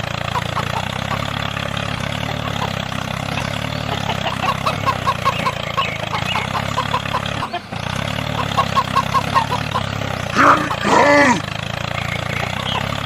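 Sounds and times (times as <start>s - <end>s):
small motor running: 0.0s - 13.0s.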